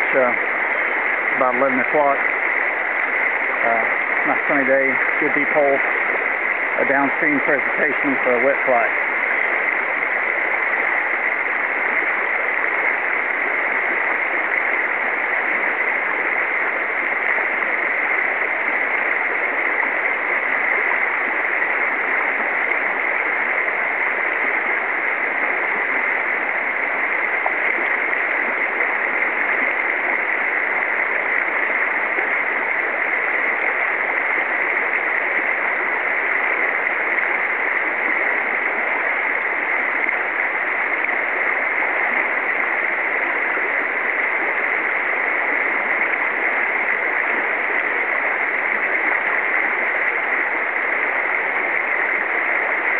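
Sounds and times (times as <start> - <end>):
river water rushing: 0.0 - 52.9.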